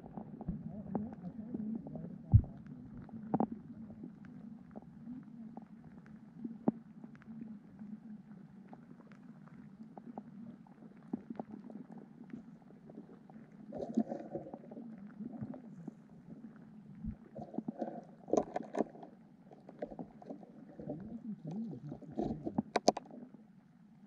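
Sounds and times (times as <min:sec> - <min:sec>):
underwater stream gurgling: 0:00.0 - 0:24.0.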